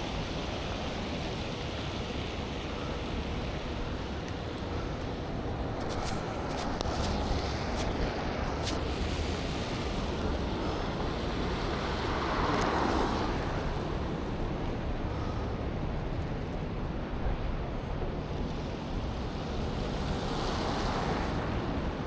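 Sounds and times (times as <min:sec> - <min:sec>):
city traffic noise: 0:00.0 - 0:22.0
wind: 0:00.0 - 0:22.0.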